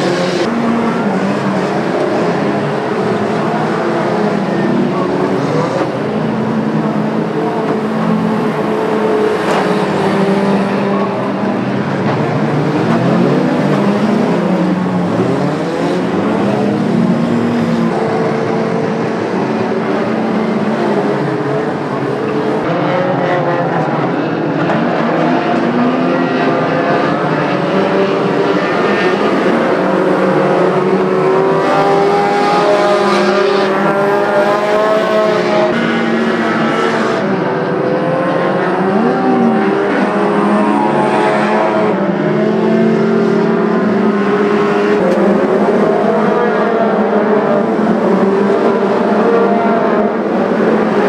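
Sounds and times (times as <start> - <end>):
racing car engines: 0.0 - 51.0.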